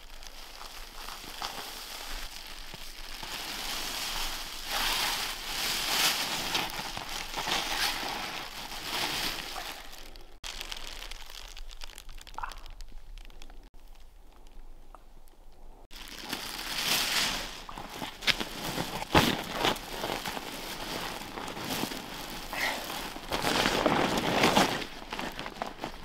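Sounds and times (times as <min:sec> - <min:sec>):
plastic bag crinkling and rustling: 0:00.0 - 0:14.6, 0:15.8 - 0:26.0.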